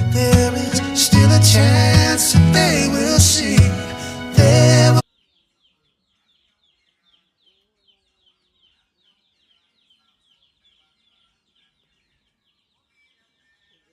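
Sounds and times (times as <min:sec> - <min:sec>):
faint birds chirping: 0:00.0 - 0:13.9.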